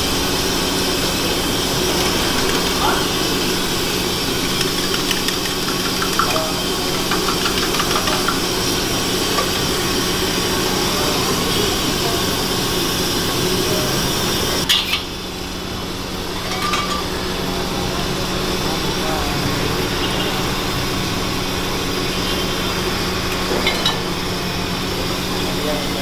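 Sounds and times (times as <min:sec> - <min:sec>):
gas burner roaring: 0:00.0 - 0:26.0.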